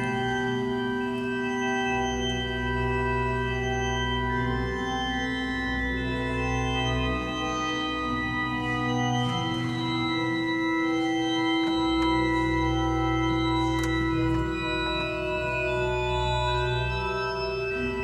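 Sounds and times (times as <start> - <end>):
deep organ pedal notes: 0.0 - 18.0
pipe organ chords: 0.0 - 18.0.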